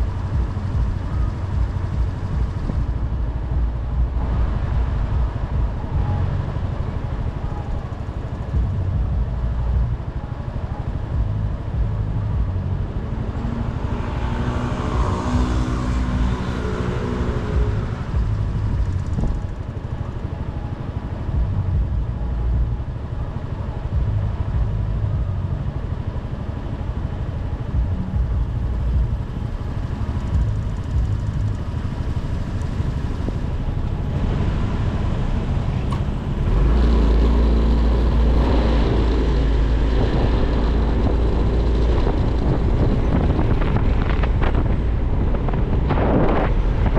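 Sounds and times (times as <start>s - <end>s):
motorcycle engine rumble: 0.0s - 46.9s
wind and road noise: 0.0s - 46.9s.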